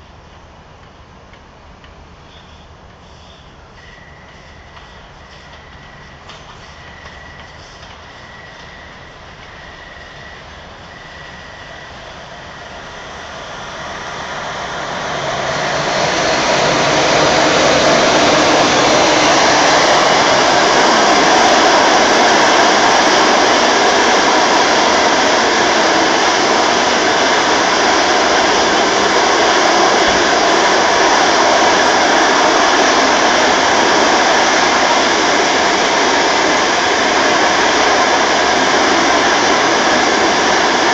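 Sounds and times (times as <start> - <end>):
train wheels on rails: 0.0 - 40.9
electric locomotive passing: 1.8 - 40.9.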